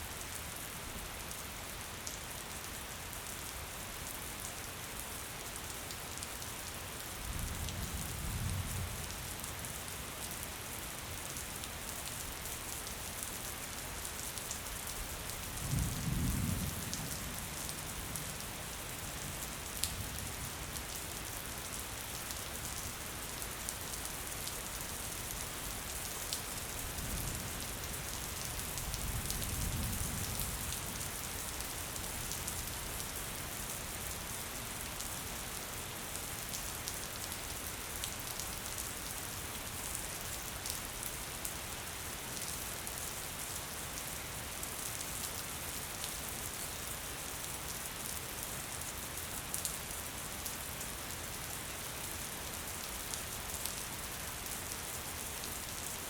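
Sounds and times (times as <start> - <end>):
gentle rain falling: 0.0 - 56.0.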